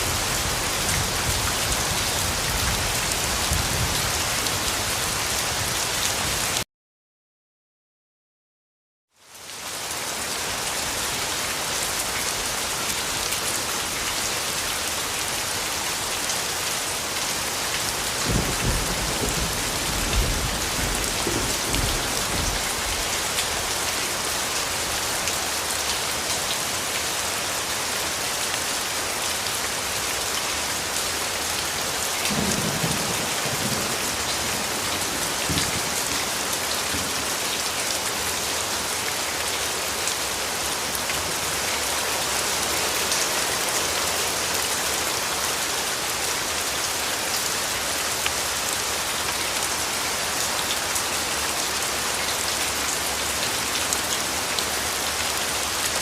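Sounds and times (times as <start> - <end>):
steady rain: 0.0 - 6.7, 9.1 - 56.0.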